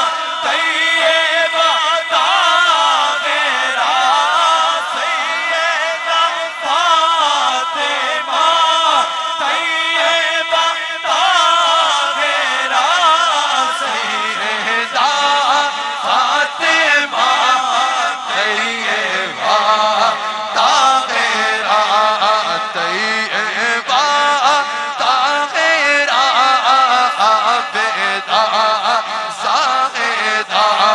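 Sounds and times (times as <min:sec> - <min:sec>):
devotional chanting voices: 0:00.0 - 0:30.9.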